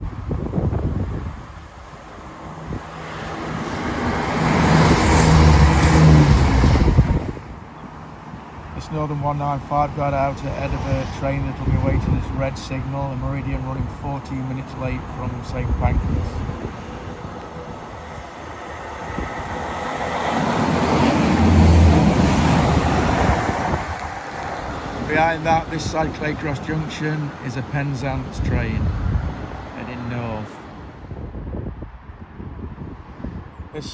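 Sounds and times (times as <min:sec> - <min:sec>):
passenger train passing: 0:00.0 - 0:09.0, 0:09.6 - 0:31.1.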